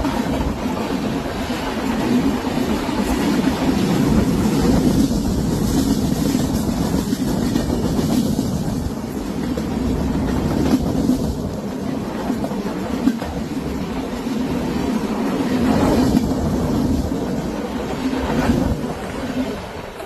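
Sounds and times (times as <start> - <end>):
train rolling rumble: 0.0 - 20.0.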